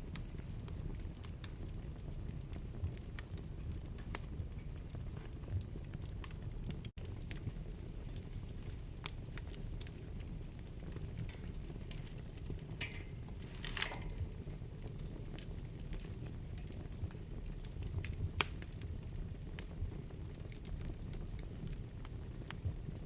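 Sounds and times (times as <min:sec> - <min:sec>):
fire crackles and pops: 0:00.0 - 0:23.0
wood fire rumbling: 0:00.0 - 0:23.0.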